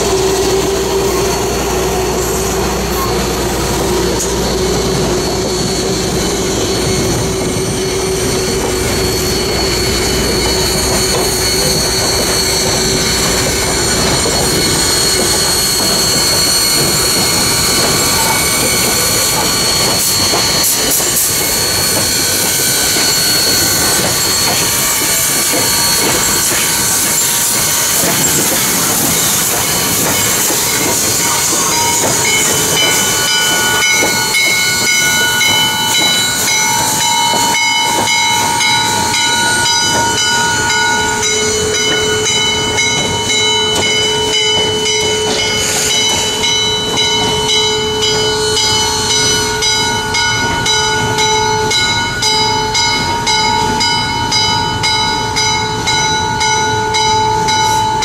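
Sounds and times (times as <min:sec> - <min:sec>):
steady high tones: 0:00.0 - 0:58.0
steam hissing: 0:00.0 - 0:58.0.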